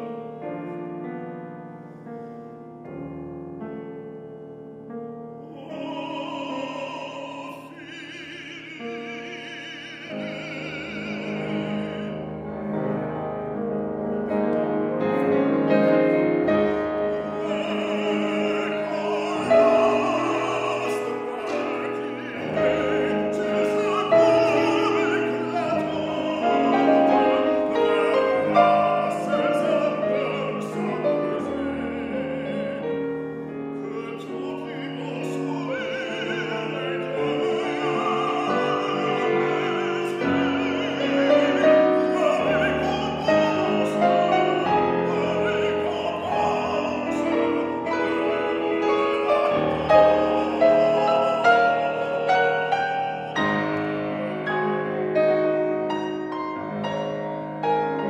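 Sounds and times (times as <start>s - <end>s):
man singing classical song: 0.0s - 4.1s, 4.8s - 58.0s
grand piano: 0.0s - 58.0s.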